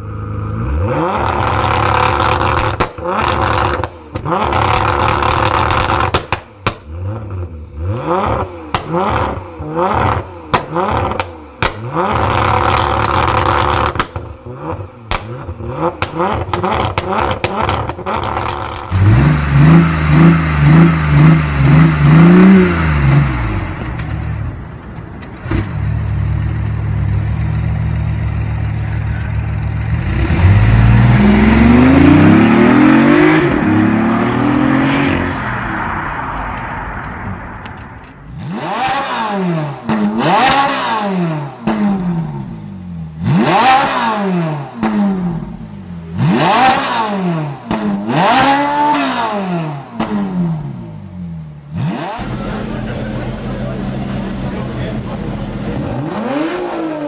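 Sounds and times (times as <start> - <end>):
car engine revving: 0.0 - 24.6, 25.4 - 57.0.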